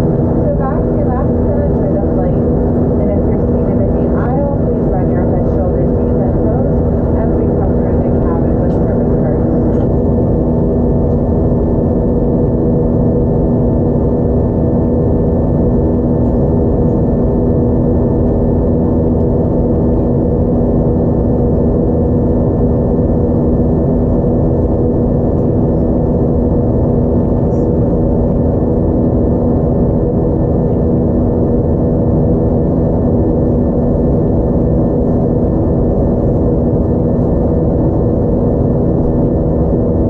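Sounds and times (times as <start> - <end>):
jet engine cabin rumble: 0.0 - 40.0
steady tonal hum: 0.0 - 40.0.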